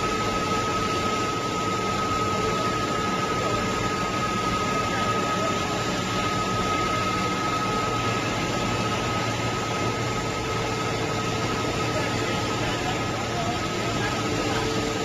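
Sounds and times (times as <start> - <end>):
high-pitched machine whine: 0.0 - 15.0
production line machinery running: 0.0 - 15.0.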